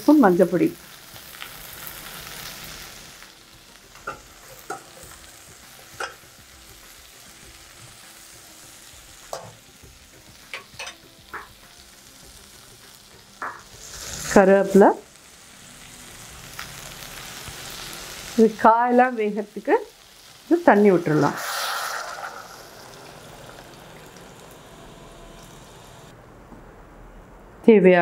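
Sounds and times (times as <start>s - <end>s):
vegetables sizzling in oil: 0.0s - 26.1s.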